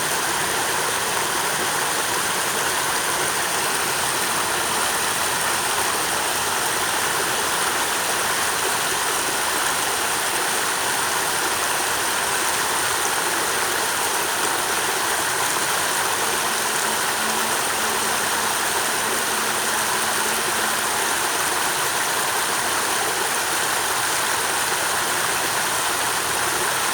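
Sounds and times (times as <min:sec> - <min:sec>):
stream rushing: 0:00.0 - 0:26.9.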